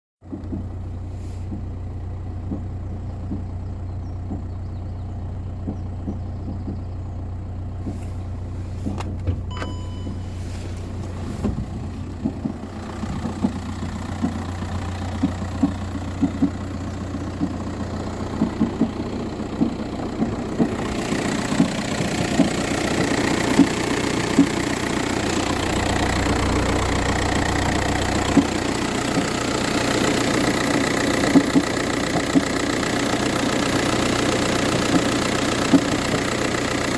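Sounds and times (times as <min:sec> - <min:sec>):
sharp irregular engine knocks: 0:00.2 - 0:10.2, 0:10.9 - 0:36.9
diesel engine idling: 0:00.2 - 0:36.9.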